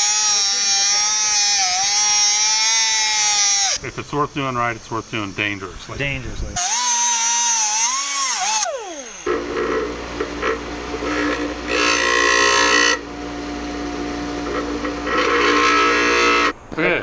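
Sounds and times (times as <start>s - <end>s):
grinder running: 0.0s - 3.8s, 6.6s - 16.6s
grinder whine: 0.0s - 3.8s, 6.6s - 16.6s
harsh grinding of metal: 0.0s - 3.8s, 6.6s - 16.6s.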